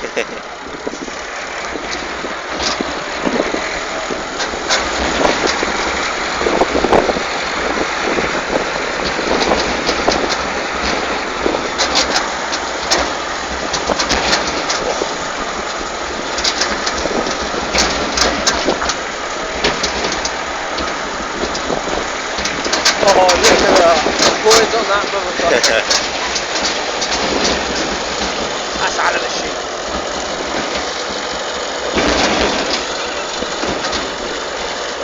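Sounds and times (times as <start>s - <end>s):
tractor engine running: 0.0s - 35.0s
rattles and knocks: 0.8s - 35.0s.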